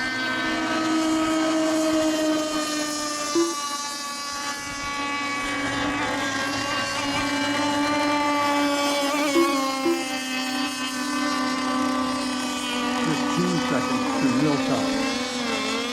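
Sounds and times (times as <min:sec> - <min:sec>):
model boat engines buzzing: 0:00.0 - 0:15.9.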